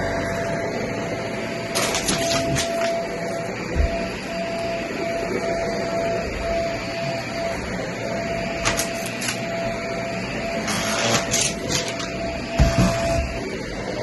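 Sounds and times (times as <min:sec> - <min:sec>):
vacuum cleaner motor whine: 0:00.0 - 0:14.0.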